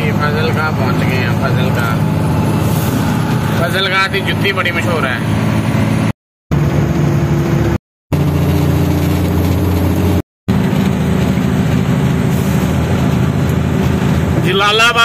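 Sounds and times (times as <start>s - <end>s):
road noise: 0.0s - 15.0s
truck diesel engine running: 0.0s - 15.0s.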